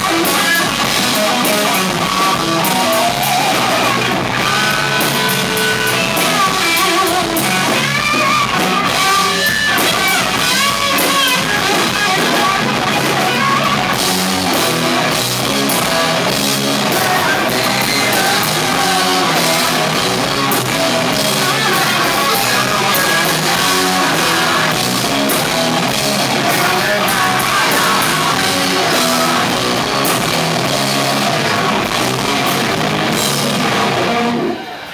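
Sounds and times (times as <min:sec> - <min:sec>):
drum kit: 0:00.0 - 0:34.8
electric guitars: 0:00.0 - 0:34.9.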